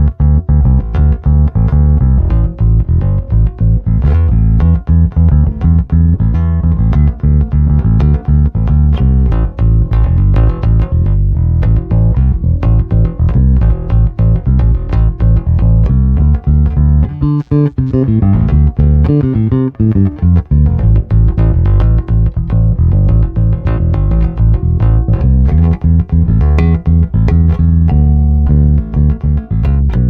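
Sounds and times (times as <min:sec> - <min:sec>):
electric bass plucked notes: 0:00.0 - 0:30.0.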